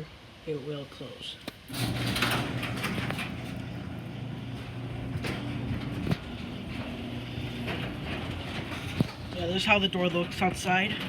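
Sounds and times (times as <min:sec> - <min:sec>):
garage door opener running: 0:01.7 - 0:11.0.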